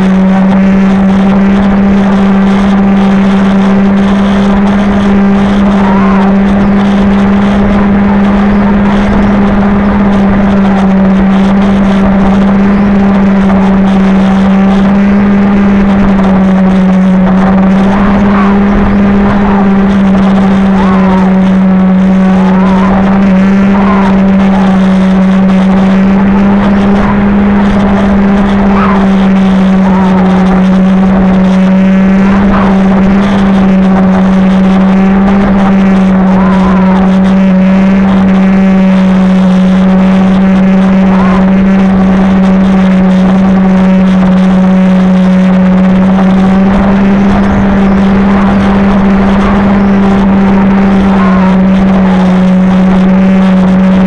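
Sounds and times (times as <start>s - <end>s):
model airplane motor drone: 0.0s - 54.0s.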